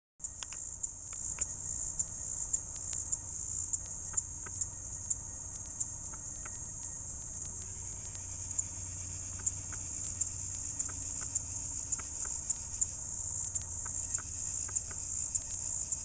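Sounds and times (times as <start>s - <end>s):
faint ticks: 0.2s - 16.0s
pulsing insect chorus: 0.2s - 16.0s.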